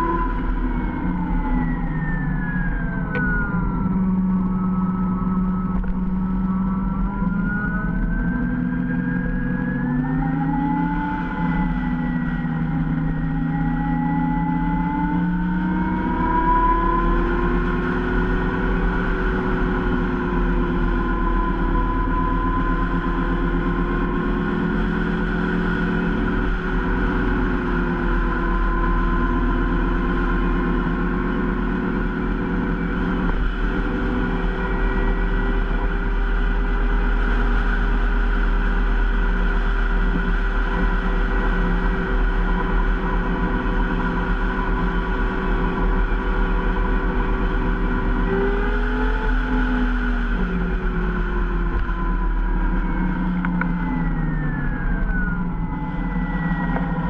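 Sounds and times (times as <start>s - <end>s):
electric motorcycle motor whining: 0.0s - 57.0s
wind and road noise: 0.0s - 57.0s.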